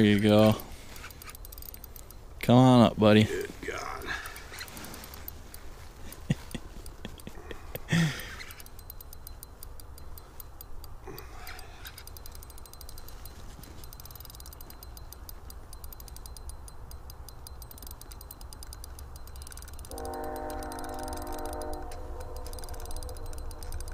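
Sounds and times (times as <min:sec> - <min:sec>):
fishing reel ticking rapidly: 0:00.0 - 0:23.9.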